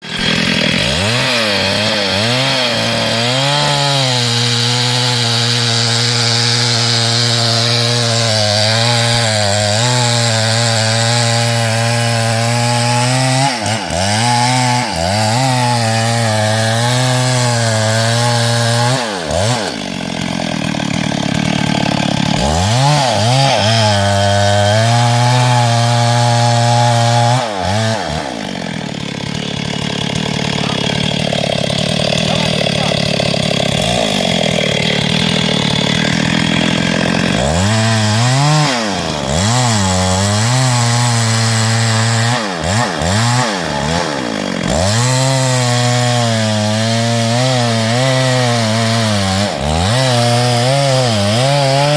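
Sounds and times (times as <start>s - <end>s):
chainsaw cutting hardwood: 0.0s - 51.9s.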